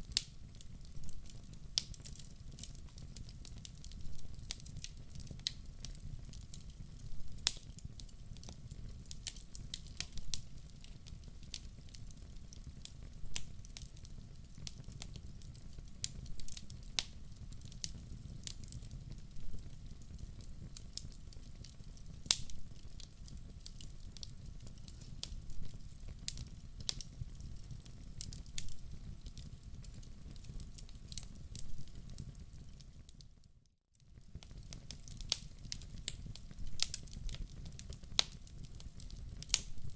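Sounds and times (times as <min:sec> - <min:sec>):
fire rumbling: 0:00.0 - 0:33.0, 0:34.2 - 0:39.9
fire crackling and popping: 0:00.0 - 0:33.5, 0:34.1 - 0:39.9.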